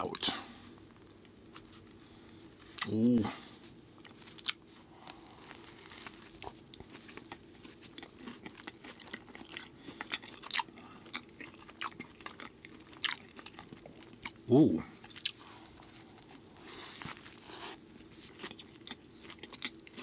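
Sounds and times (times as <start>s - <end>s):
chewing with soft crunches: 0.1s - 20.0s.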